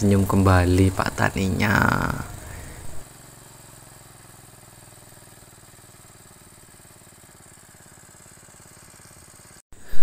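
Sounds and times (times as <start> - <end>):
small water pump engine running: 0.0 - 9.9.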